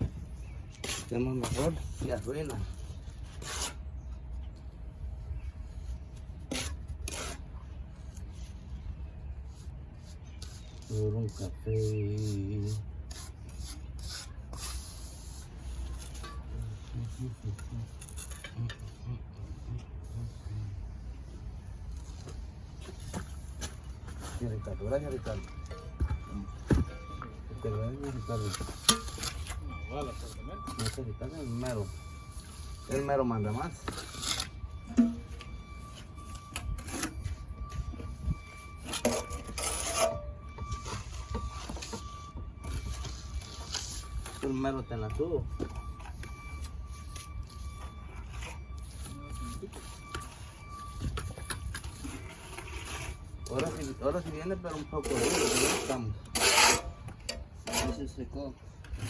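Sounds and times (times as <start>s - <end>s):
trowel scraping wet cement: 0.0s - 4.0s, 6.0s - 8.3s, 10.0s - 19.1s, 21.9s - 59.0s.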